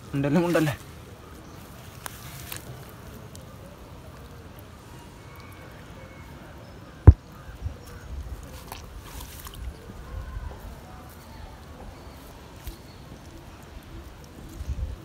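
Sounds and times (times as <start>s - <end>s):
hands handling wet soil: 0.0s - 6.0s, 7.1s - 15.0s.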